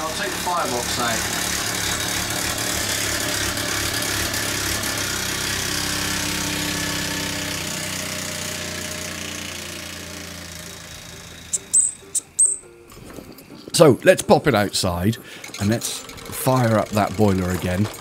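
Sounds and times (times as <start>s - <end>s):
toy steam engine running: 0.0s - 12.6s, 13.7s - 18.0s.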